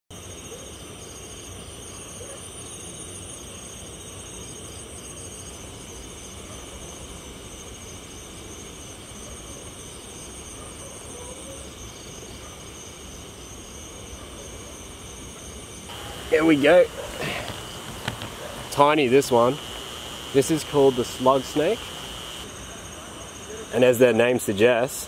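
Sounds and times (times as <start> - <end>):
insect trills: 0.1 - 25.0
pulsing insect chirps: 0.2 - 25.0.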